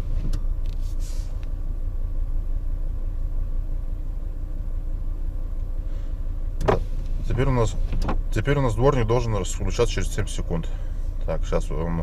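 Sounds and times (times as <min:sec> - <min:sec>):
faint constant hum: 0:00.0 - 0:12.0
van engine idling: 0:00.0 - 0:12.0.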